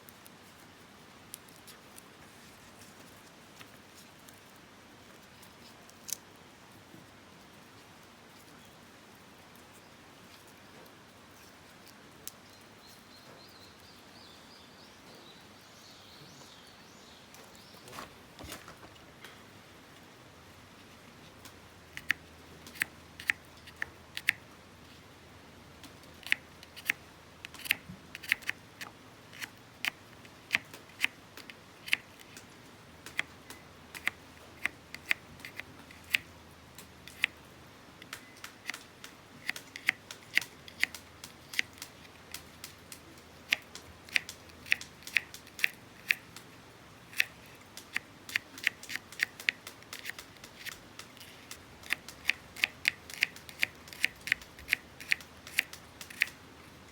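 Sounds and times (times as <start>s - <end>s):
faint steady hiss: 0.0s - 56.9s.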